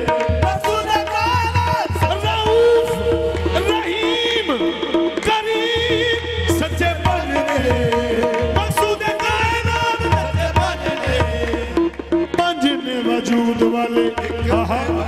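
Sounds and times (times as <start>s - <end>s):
tabla beat: 0.0s - 15.0s.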